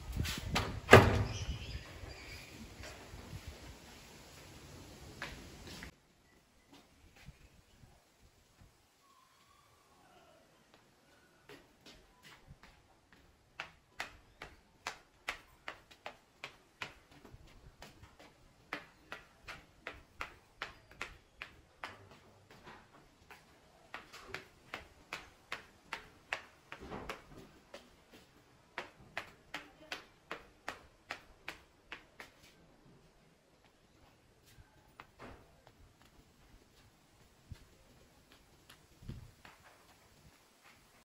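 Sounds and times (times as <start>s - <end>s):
footsteps on tiled floor: 0.0s - 6.0s, 10.7s - 41.0s.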